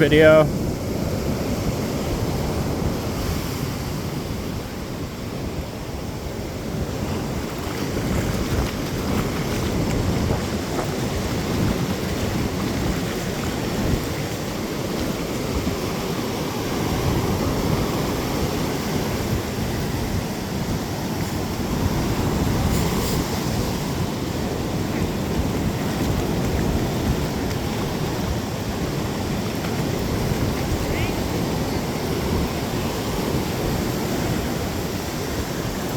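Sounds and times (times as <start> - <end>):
ocean surf washing: 0.0 - 35.9
wind rumbling on microphone: 0.0 - 35.9.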